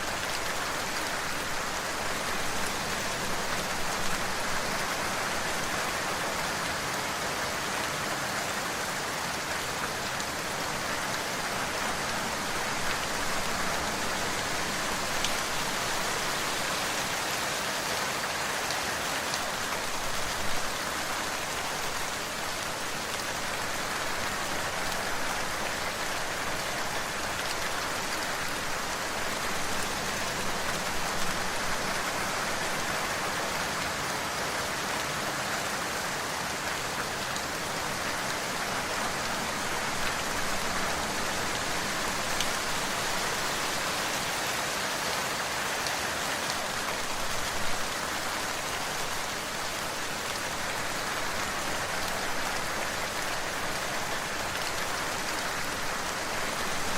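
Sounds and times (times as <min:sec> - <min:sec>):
individual raindrops: 0:00.0 - 0:56.9
rain falling: 0:00.0 - 0:56.9.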